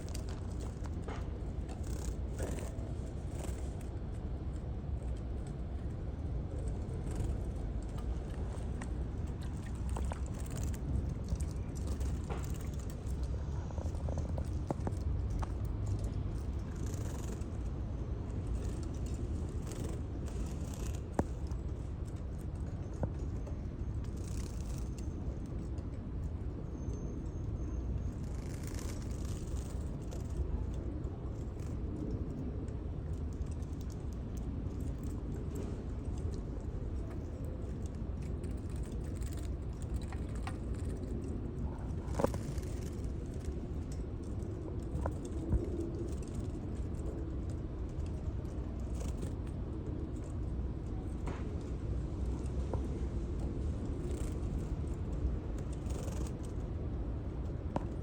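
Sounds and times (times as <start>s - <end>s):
steady low hum: 0.0s - 58.0s
steady low rumble: 0.0s - 58.0s.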